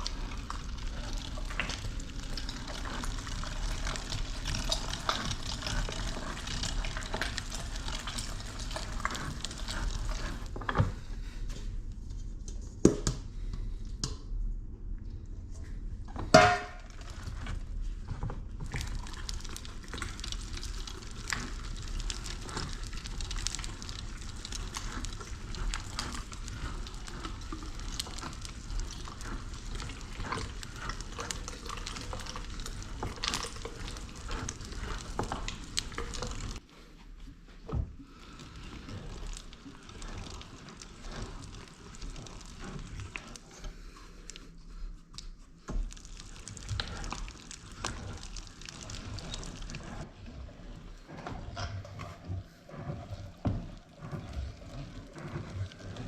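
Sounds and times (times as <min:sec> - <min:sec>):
meat grinder squishing: 0:00.0 - 0:11.6, 0:16.1 - 0:36.6, 0:37.7 - 0:56.0.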